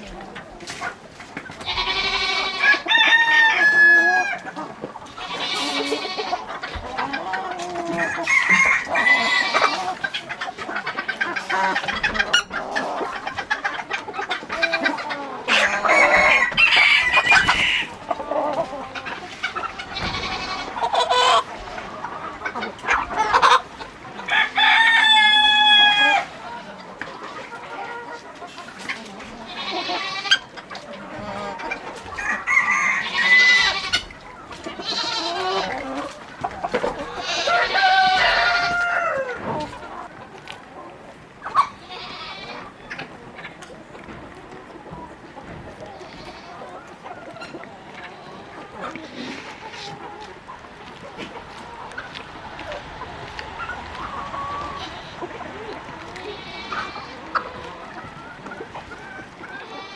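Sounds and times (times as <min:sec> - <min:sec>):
chickens clucking: 0:00.0 - 0:59.9
long drawn-out chicken calls: 0:00.0 - 0:59.9.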